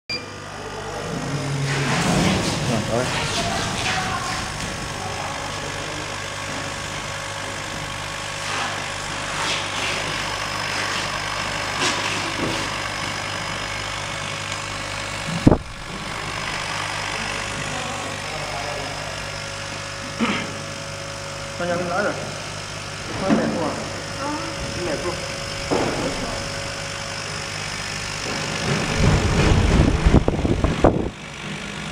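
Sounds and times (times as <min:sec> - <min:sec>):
exhaust fan humming: 0:00.1 - 0:31.9.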